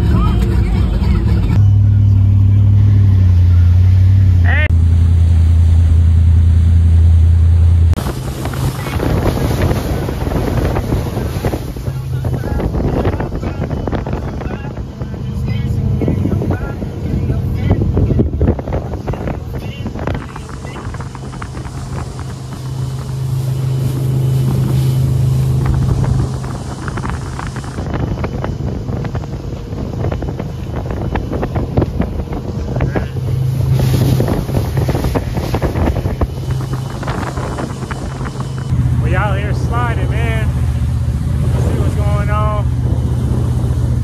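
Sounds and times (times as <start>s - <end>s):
speedboat engine droning: 0.0s - 44.0s
water rushing and splashing: 2.4s - 44.0s
wind buffeting microphone: 7.8s - 44.0s.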